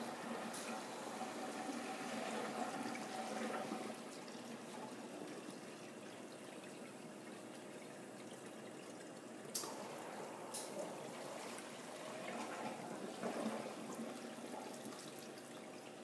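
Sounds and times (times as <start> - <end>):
faint steady hum: 0.0 - 16.0
liquid trickling in tanks: 0.0 - 16.0.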